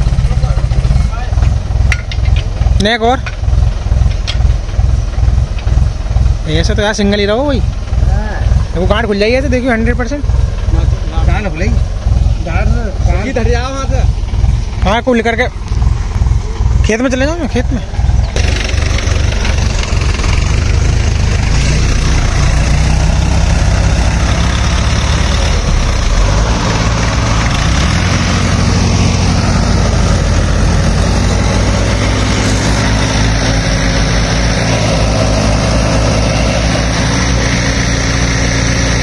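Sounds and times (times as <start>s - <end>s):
tractor diesel engines straining: 0.0s - 39.0s.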